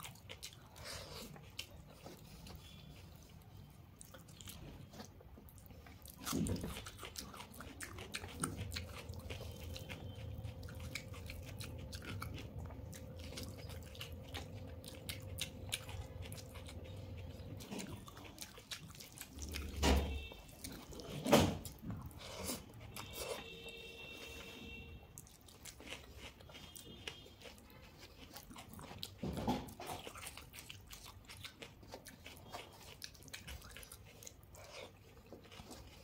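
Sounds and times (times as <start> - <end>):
wet chewing: 0.0 - 36.0.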